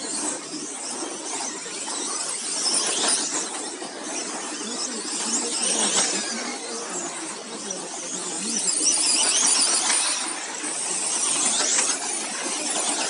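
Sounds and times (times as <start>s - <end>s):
rc truck motors whining: 0.0s - 13.0s.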